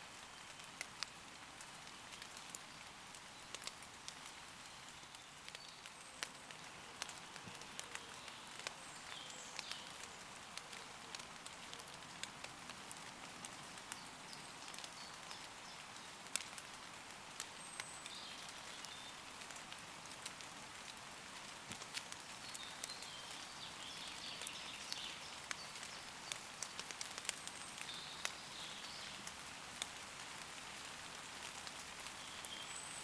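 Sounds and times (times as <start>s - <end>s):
light rain on leaves: 0.0s - 33.0s.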